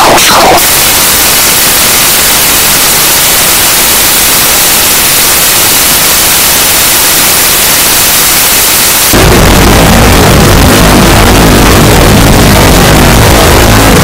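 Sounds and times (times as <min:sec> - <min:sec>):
harsh noise music: 0:00.0 - 0:05.8, 0:07.6 - 0:14.0.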